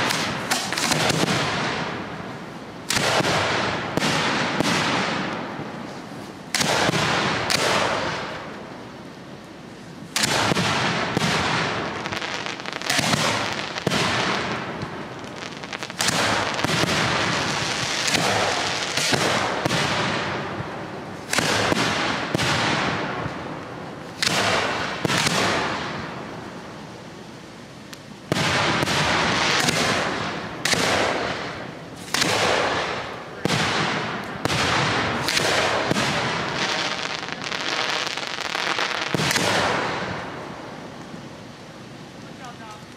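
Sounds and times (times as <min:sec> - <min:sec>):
firework shells bursting: 0:00.0 - 0:26.9, 0:27.7 - 0:41.4.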